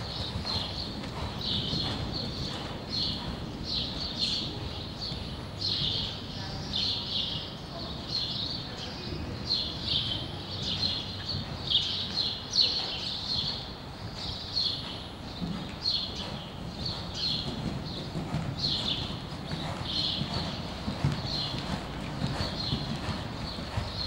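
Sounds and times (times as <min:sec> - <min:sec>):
hooves beating on sand: 0:00.0 - 0:24.0
small birds chirping: 0:00.0 - 0:24.0.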